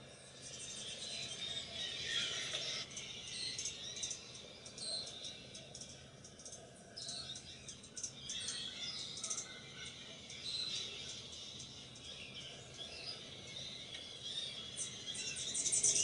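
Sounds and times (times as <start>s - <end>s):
hummingbird chirping: 0.2s - 16.0s.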